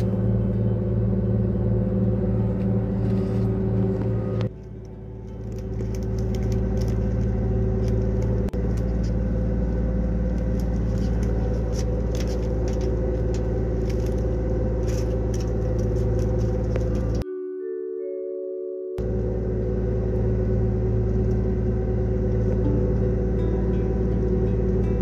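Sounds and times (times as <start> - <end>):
boat engine running: 0.0 - 17.2, 19.0 - 25.0.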